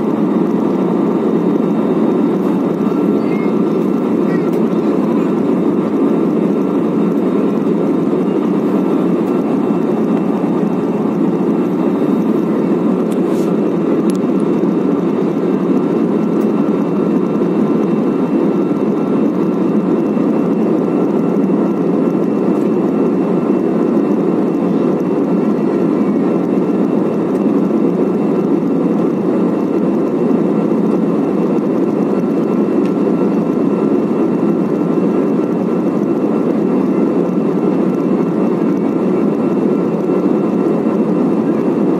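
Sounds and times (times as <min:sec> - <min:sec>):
faint steady whine: 0:00.0 - 0:41.9
jet engine and airflow drone: 0:00.0 - 0:41.9.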